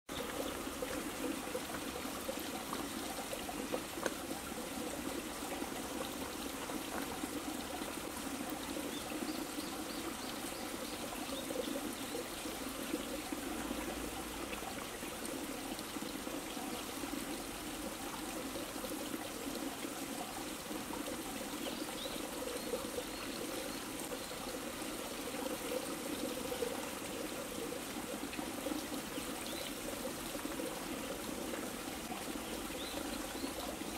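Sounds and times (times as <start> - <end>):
running water trickling: 0.1 - 33.9.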